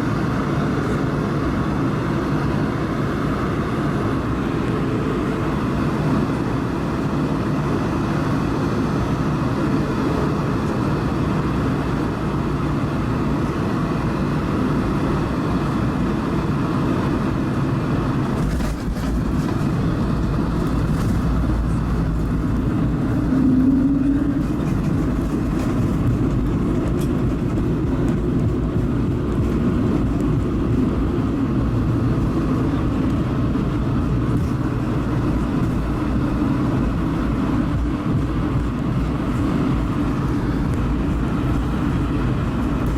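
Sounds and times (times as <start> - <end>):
aircraft cabin engine and airflow rumble: 0.0 - 42.9.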